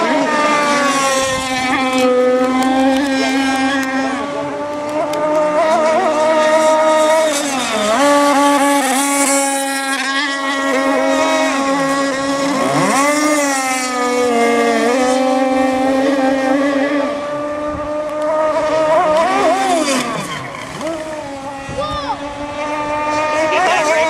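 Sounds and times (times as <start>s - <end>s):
speedboat engine whine: 0.0s - 24.0s.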